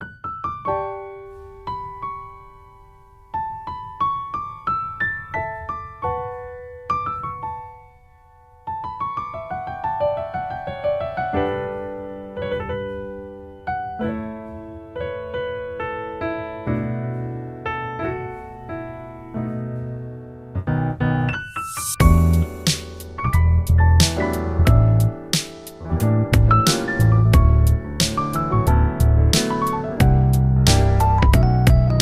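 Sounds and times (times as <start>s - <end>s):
gentle piano melody: 0.0s - 32.0s.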